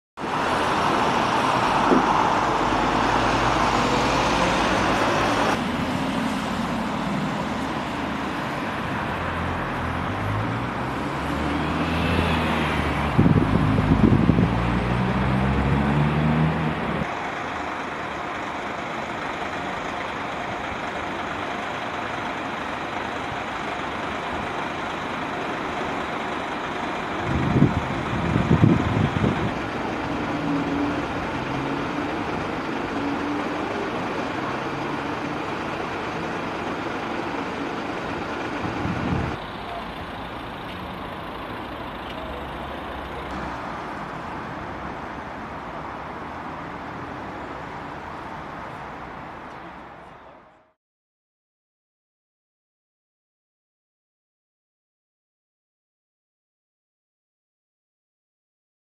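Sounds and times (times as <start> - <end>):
steady hum of cars: 0.2 - 50.8
vehicles passing: 0.2 - 50.8.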